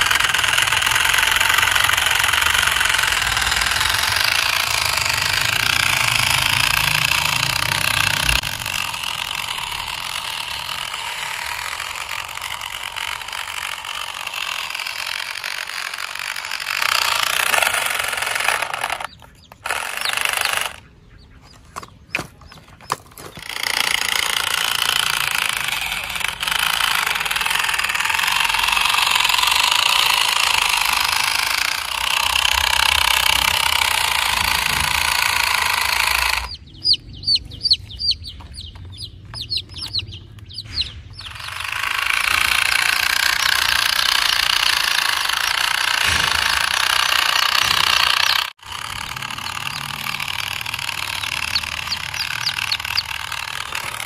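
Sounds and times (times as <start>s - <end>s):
toy truck motors rattling and whirring: 0.0s - 54.0s.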